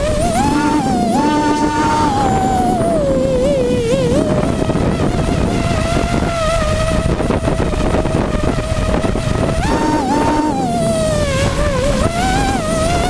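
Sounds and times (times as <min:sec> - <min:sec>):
drone motors whining: 0:00.0 - 0:13.0
rushing prop wash: 0:00.0 - 0:13.0.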